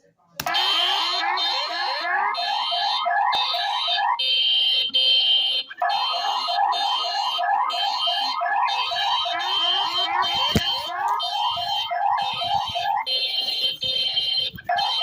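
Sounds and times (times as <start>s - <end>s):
steady high alarm tone: 0.4s - 15.0s
rapid rising alarm chirps: 0.7s - 15.0s.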